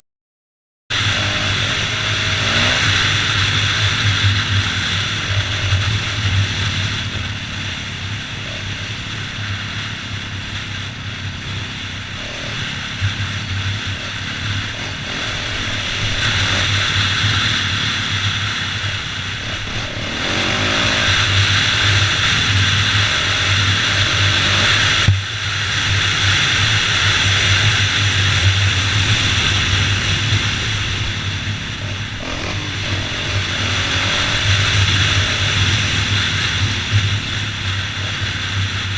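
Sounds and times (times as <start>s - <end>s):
dirt bike engine running: 0.9s - 38.9s.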